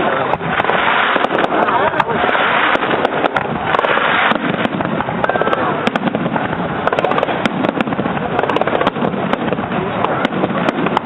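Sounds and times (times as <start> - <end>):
fireworks crackling: 0.0 - 11.0
steady rushing noise: 0.0 - 11.0.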